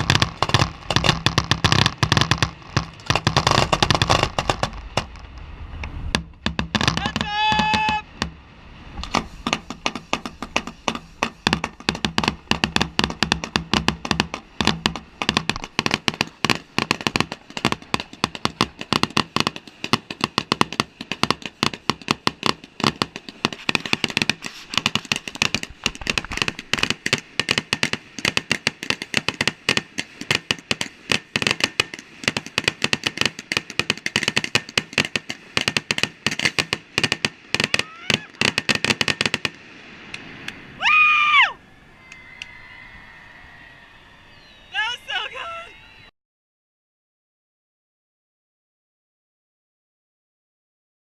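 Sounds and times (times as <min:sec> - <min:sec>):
fireworks bangs and cracks: 0:00.0 - 0:41.3.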